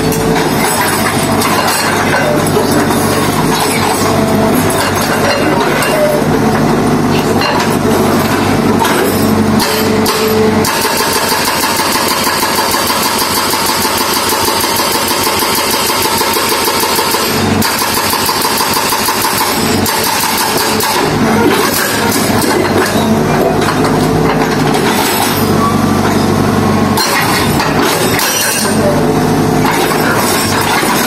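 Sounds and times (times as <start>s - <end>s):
heavy machine engine under load: 0.0s - 31.0s.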